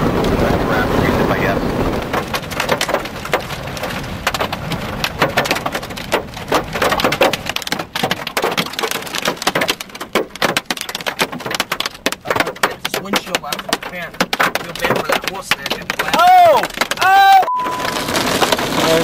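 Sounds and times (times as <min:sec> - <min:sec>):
hail and rain pelting vehicle: 0:00.0 - 0:19.0.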